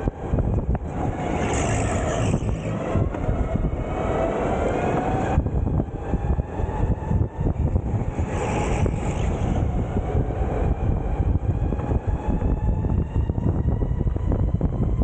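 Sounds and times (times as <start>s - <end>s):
wind and tyre noise: 0.0s - 15.0s.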